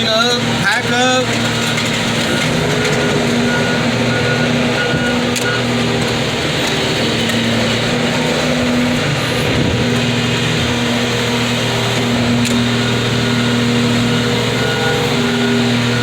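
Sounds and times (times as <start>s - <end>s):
heavy engine running: 0.0s - 16.0s.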